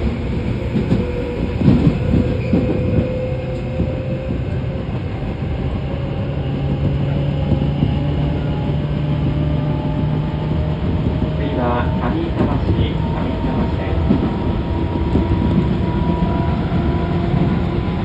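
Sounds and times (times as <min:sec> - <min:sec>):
train motor hum: 0:00.0 - 0:18.0.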